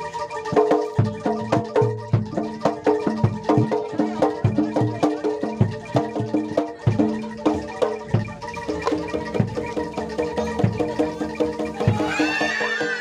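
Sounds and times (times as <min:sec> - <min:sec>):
metal mallet instruments playing: 0:00.0 - 0:13.0.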